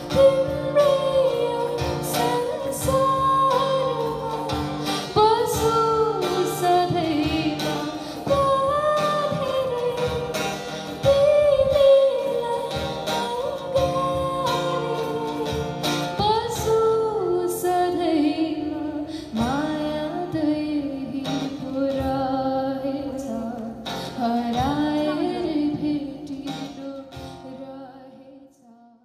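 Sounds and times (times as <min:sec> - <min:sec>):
song with sung melody: 0:00.0 - 0:29.0.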